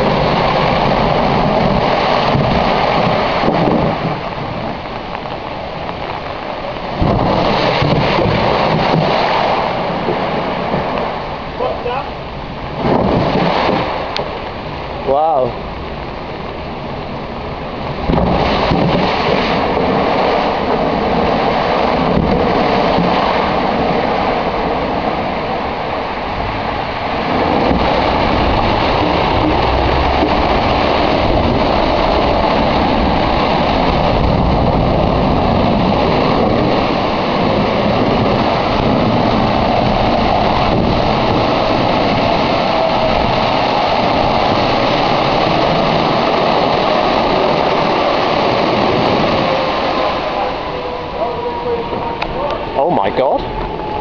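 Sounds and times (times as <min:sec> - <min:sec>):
water gushing from sewer: 0:00.0 - 0:54.0.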